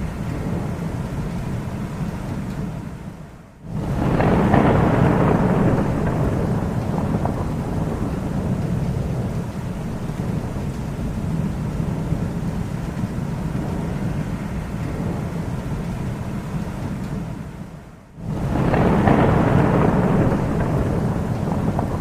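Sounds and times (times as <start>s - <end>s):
thunder rumbling: 0.0s - 22.0s.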